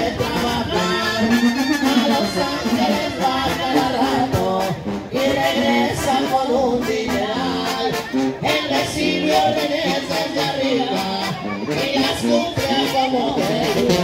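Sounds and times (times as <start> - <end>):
song with singing and beat: 0.0 - 14.0.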